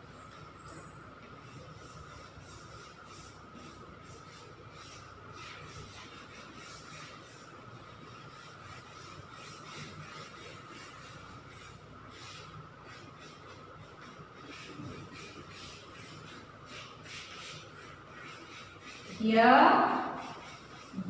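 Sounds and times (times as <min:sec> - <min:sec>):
chalk scratching on blackboard: 0:00.2 - 0:21.0.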